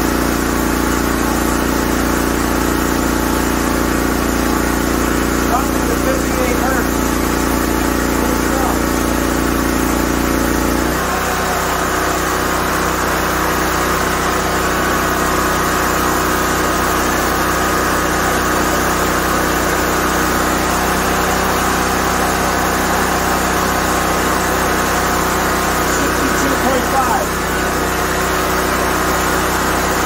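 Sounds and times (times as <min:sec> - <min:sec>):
generator engine running: 0:00.0 - 0:30.0.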